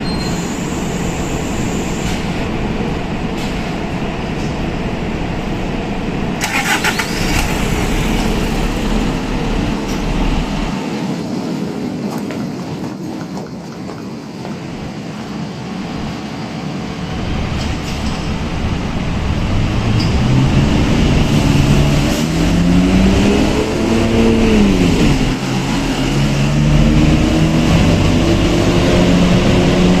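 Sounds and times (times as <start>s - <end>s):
diesel bus engine starting and running: 0.0s - 11.0s, 16.8s - 30.0s.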